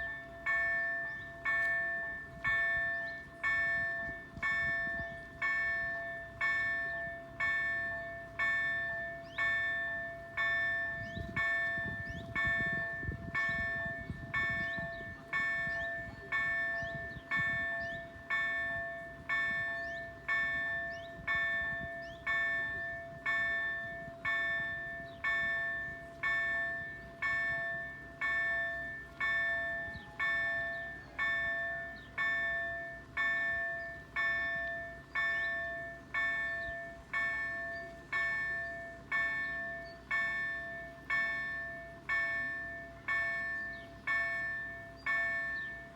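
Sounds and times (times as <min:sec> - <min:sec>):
level crossing warning bell: 0:00.0 - 0:45.9.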